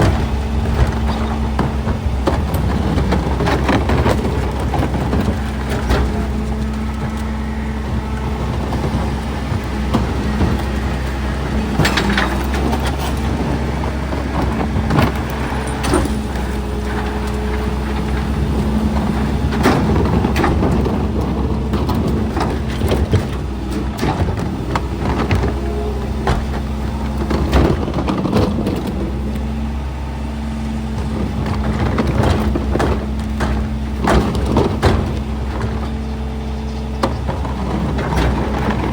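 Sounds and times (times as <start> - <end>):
metal clanks and knocks: 0.0 - 29.2, 31.0 - 38.9
garbage truck engine running: 0.0 - 38.9.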